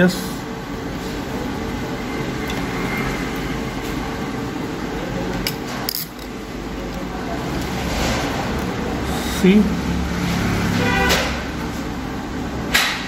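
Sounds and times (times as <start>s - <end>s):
fan hum and hiss: 0.0s - 13.0s.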